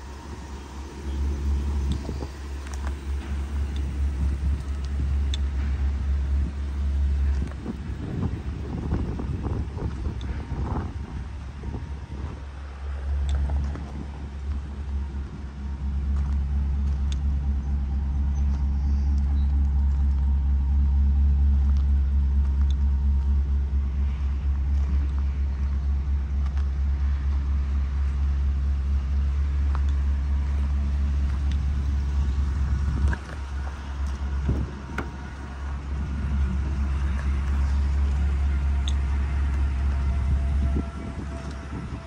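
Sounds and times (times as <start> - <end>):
pickup truck engine idling: 0.0 - 42.0.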